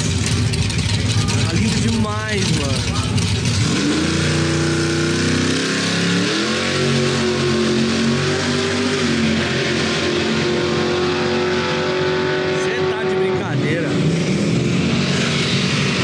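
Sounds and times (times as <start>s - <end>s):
drag car engine revving: 0.0s - 16.0s.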